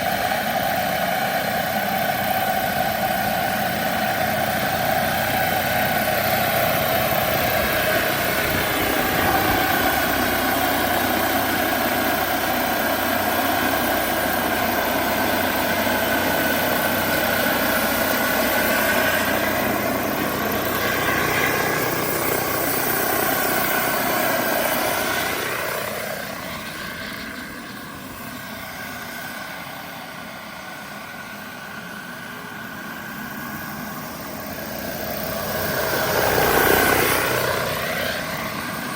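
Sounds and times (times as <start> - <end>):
helicopter rotor noise: 0.0 - 38.9
model helicopter turbine whine: 0.0 - 38.9.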